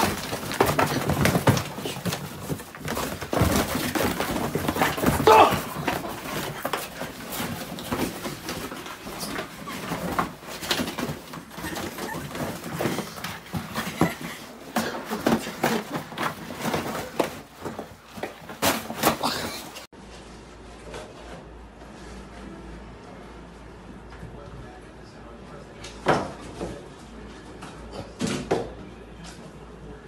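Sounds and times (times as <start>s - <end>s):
room hum: 0.0s - 30.0s.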